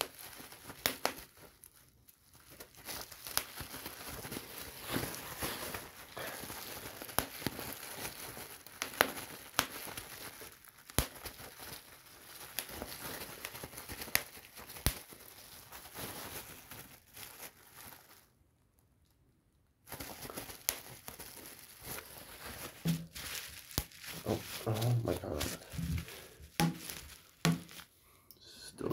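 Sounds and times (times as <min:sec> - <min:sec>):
bubble wrap popping: 0:00.0 - 0:18.8, 0:19.8 - 0:28.0
bubble wrap crinkling: 0:00.0 - 0:28.3.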